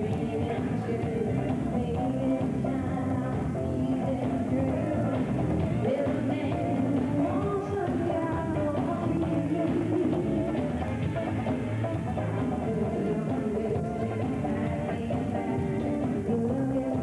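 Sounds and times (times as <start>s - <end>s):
woman singing: 0.0s - 10.7s, 12.3s - 17.0s
pop music over sound system: 0.0s - 17.0s.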